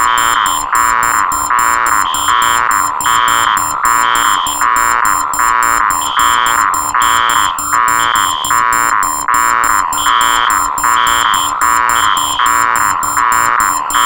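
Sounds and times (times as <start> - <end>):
fast high beeps: 0.0 - 14.0
high electronic beep: 0.0 - 14.0
pulsing low alarm tone: 0.0 - 14.0.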